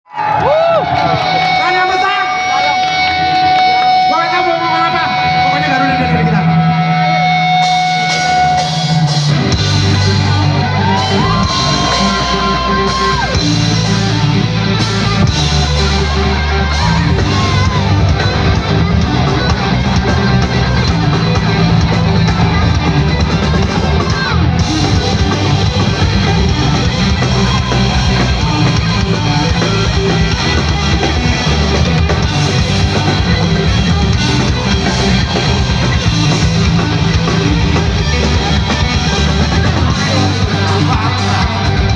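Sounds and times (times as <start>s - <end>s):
bass: 0.0s - 41.9s
drums: 0.0s - 41.9s
electric guitar: 0.1s - 41.9s.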